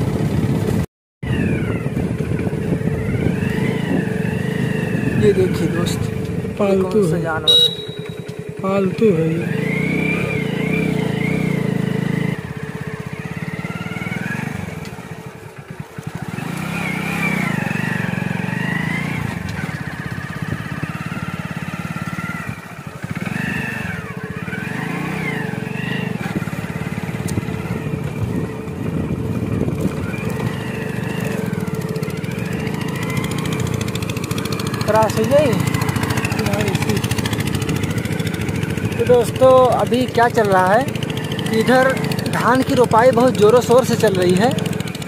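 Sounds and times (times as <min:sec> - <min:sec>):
small motorcycle engine running: 0:00.0 - 0:45.0
wind and road noise: 0:00.0 - 0:45.0.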